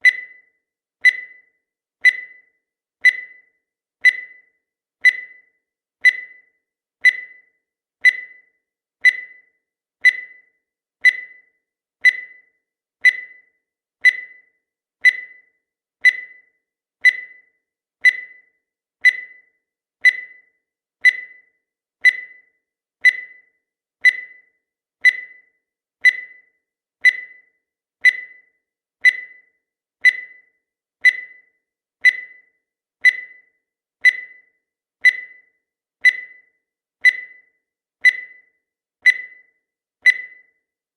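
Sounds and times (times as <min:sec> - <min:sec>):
high electronic tick-beeps: 0:00.0 - 0:40.7.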